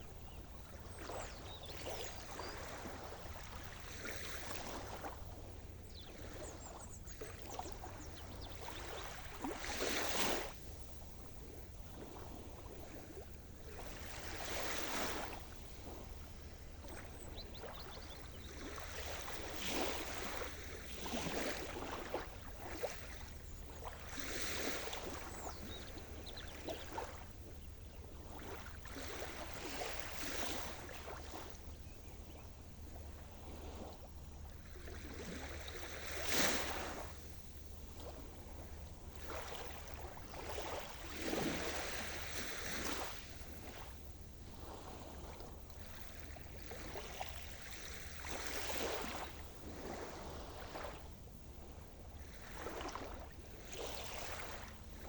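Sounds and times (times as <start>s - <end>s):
steady low surf rumble: 0.0s - 55.0s
waves breaking on shore: 0.0s - 55.0s.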